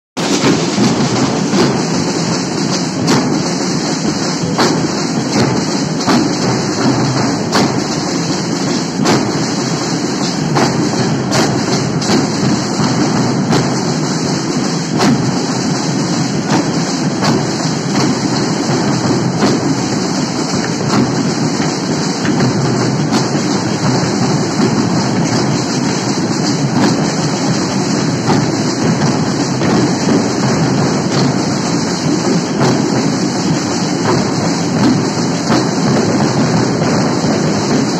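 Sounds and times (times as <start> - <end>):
marching drum band: 0.2 - 37.9.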